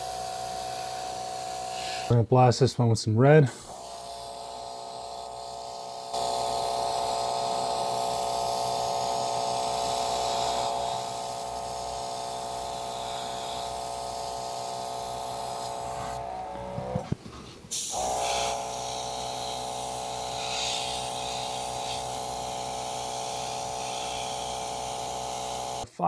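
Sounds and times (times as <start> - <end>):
airbrush air hiss: 0.0 - 2.2, 3.5 - 16.2, 17.7 - 25.8
airbrush compressor hum: 0.0 - 2.2, 3.5 - 17.1, 17.7 - 25.8.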